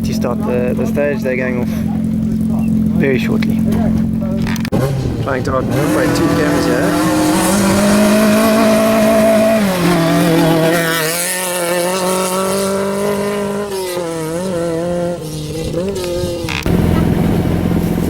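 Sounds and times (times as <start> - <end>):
rally car engine revving: 0.0 - 18.0
rough loud engine: 0.0 - 18.0.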